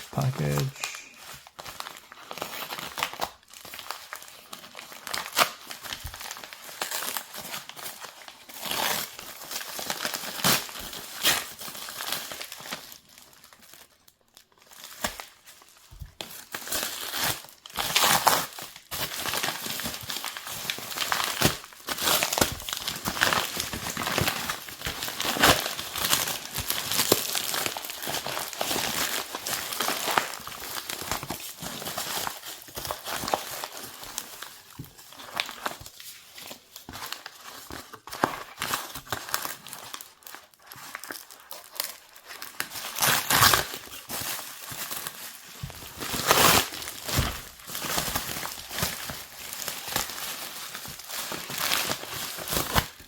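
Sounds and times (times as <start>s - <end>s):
plastic tearing: 0.0s - 13.0s, 14.6s - 53.0s
plastic packaging crinkling: 0.0s - 53.0s.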